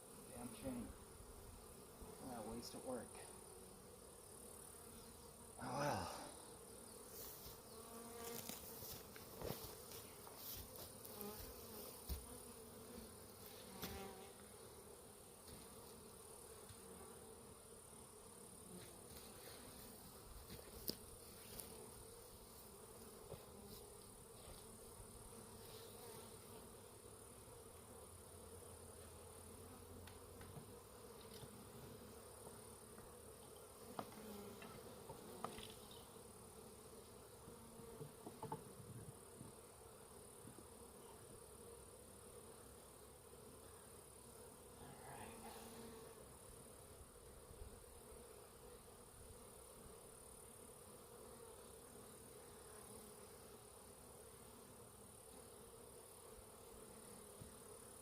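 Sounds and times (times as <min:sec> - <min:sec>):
bees buzzing: 0:00.0 - 0:58.0.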